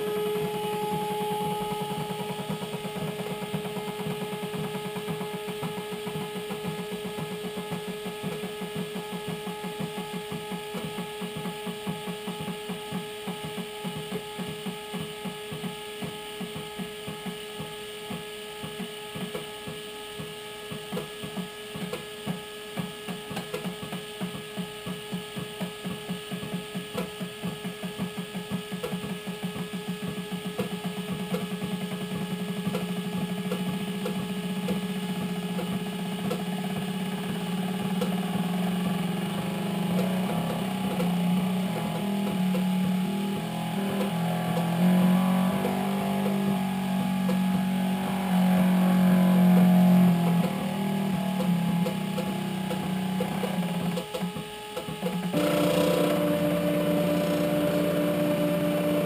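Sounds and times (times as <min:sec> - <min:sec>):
electrical hum: 0:00.0 - 0:59.0
stepper motors pulsing hum: 0:00.0 - 0:59.0.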